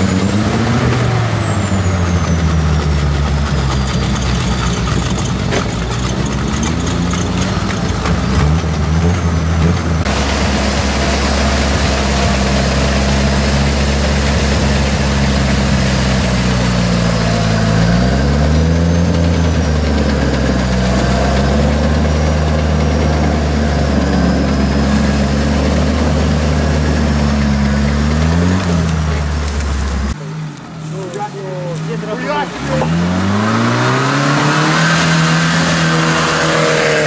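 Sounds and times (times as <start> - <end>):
off-road vehicle engine revving: 0.0 - 37.0.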